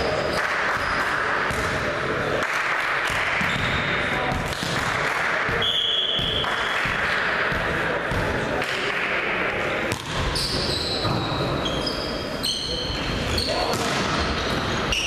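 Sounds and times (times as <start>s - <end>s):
voices chattering in echoing hall: 0.0s - 15.0s.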